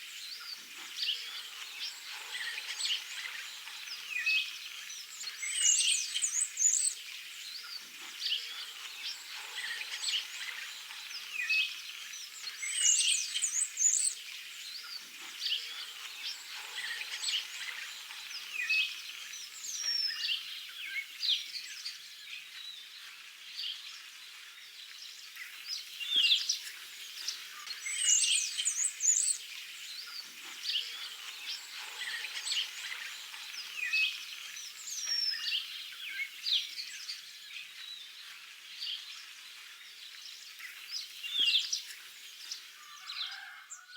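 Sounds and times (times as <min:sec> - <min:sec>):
songbirds chirping and singing: 0:00.0 - 0:43.9.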